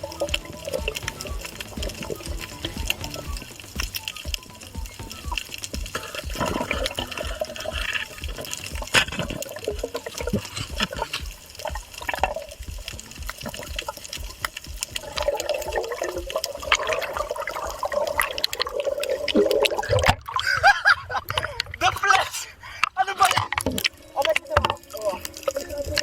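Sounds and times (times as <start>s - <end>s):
small clicks and crackles: 0.0s - 20.2s, 21.3s - 26.0s
sea water sloshing and splashing: 0.0s - 26.0s.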